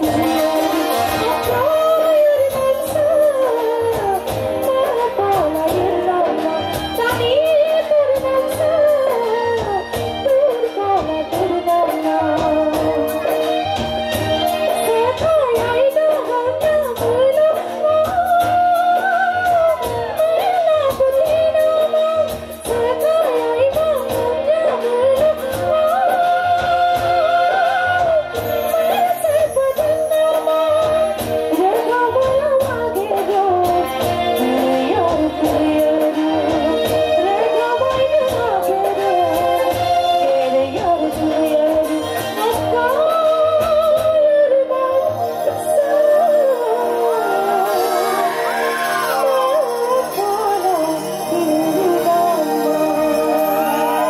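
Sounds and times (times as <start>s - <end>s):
amplified band with steady beat: 0.0s - 54.0s
woman singing into a microphone: 0.0s - 54.0s.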